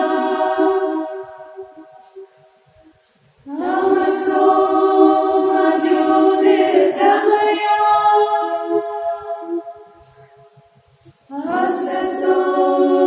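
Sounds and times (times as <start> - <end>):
choir singing a held note: 0.0 - 2.7, 3.5 - 10.4, 11.3 - 13.0.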